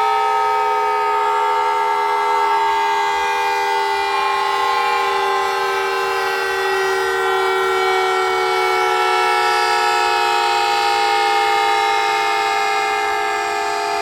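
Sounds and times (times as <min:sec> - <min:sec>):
outdoor warning siren chord: 0:00.0 - 0:14.0.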